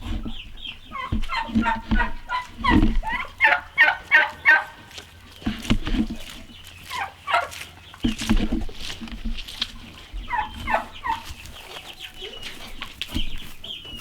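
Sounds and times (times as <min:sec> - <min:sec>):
turkeys gobbling: 0:00.0 - 0:14.0.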